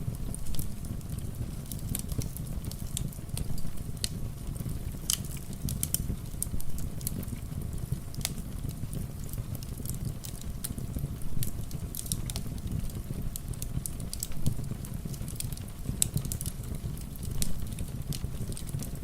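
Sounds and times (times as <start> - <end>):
rain: 0.0 - 19.0
wood fire crackling and popping: 0.0 - 19.0.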